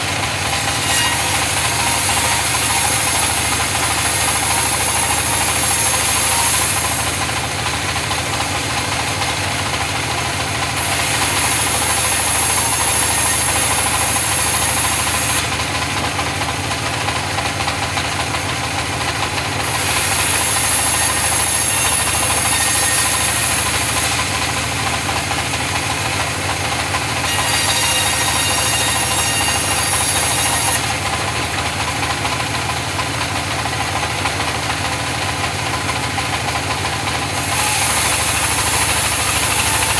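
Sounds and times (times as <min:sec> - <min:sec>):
engine-driven sawmill sawing wood: 0:00.0 - 0:39.9.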